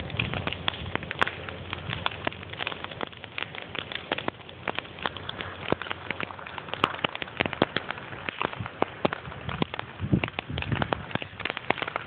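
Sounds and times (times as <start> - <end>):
bonfire crackling and popping: 0.0 - 12.0
hiss of burning wood: 0.0 - 12.0.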